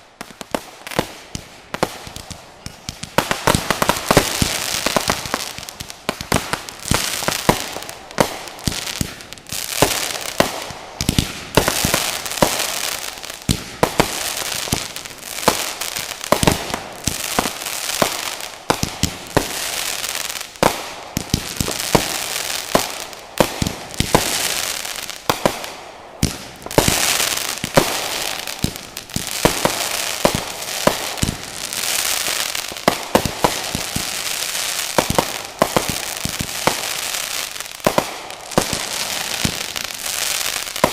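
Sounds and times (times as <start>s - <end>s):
crackling hiss: 0.0s - 40.9s
fireworks bangs: 0.0s - 40.9s.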